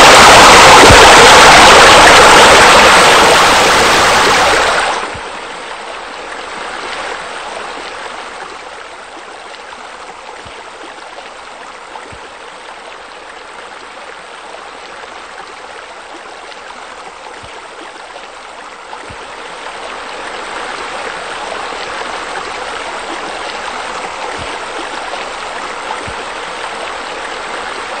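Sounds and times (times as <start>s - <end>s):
water splashing into a pool: 0.0s - 13.0s, 13.8s - 28.0s.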